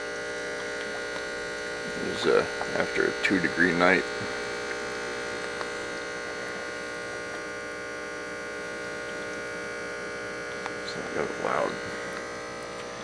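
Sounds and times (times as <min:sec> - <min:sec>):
electric air pump buzzing: 0:00.0 - 0:13.0.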